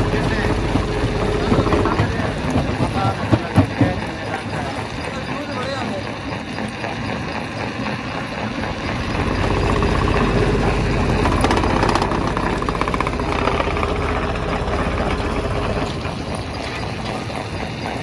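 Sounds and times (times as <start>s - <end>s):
stone crusher engine drone: 0.0s - 18.0s.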